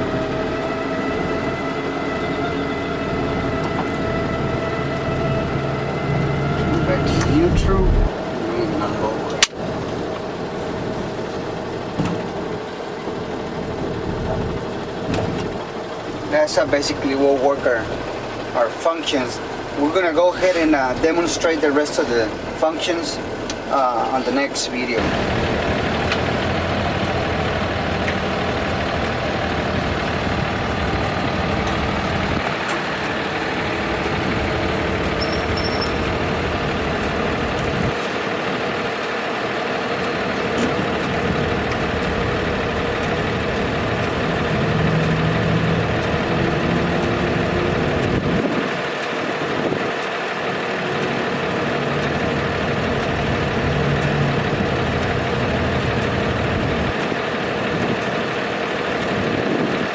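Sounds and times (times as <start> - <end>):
diesel truck idling: 0.0 - 59.9.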